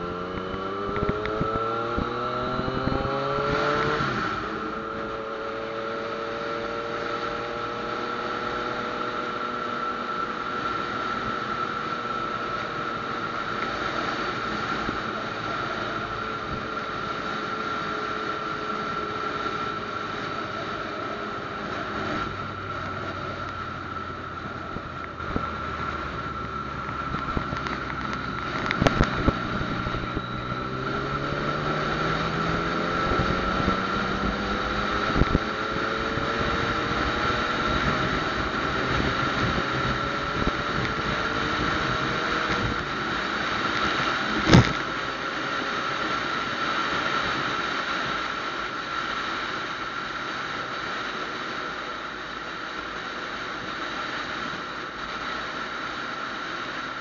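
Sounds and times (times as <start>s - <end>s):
wind rushing over microphone: 0.0s - 50.1s
motorcycle engine: 0.0s - 57.0s.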